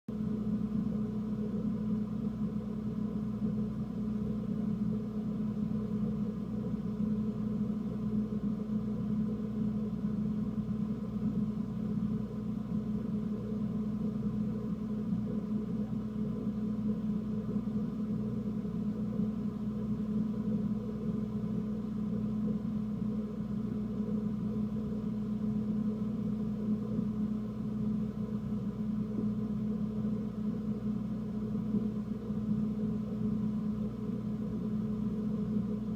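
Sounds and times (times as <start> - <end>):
low mechanical hum: 0.1 - 35.9.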